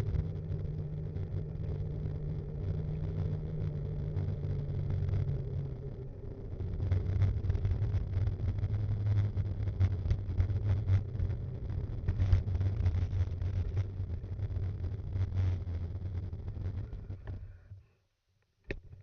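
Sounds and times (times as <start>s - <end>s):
low rumble: 0.0s - 17.4s.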